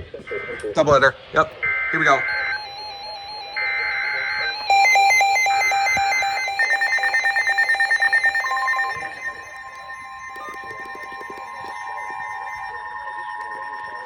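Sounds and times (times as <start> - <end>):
emergency alert beeps: 0.2 - 14.0
steady high-pitched tone: 1.6 - 14.0.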